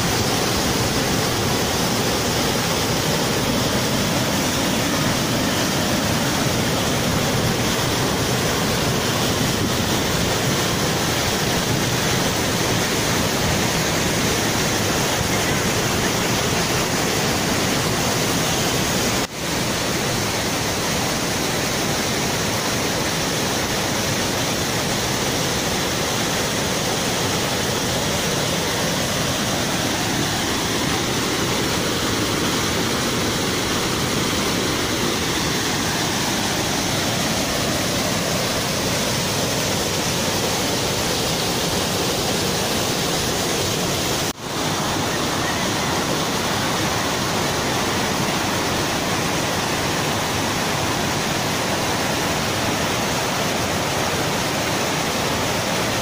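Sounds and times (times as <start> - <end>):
waterfall splashing over rocks: 0.0 - 56.0.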